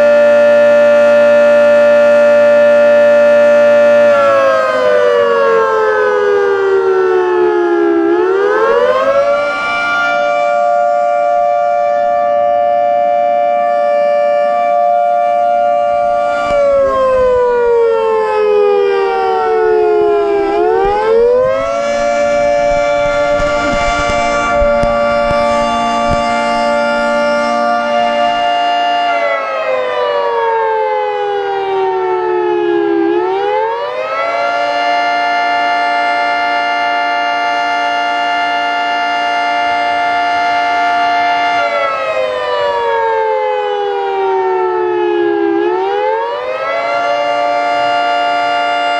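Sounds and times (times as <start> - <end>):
outdoor warning siren: 0.0 - 48.9.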